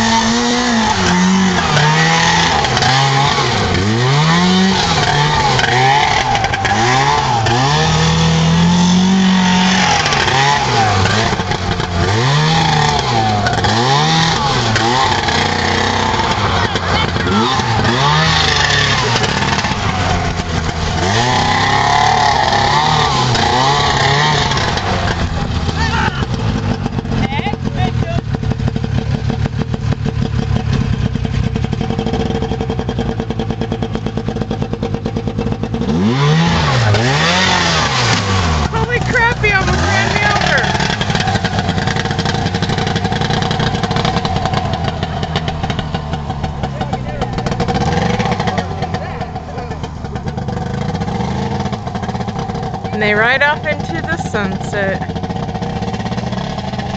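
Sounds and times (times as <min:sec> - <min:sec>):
engine revving hard: 0:00.0 - 0:56.9.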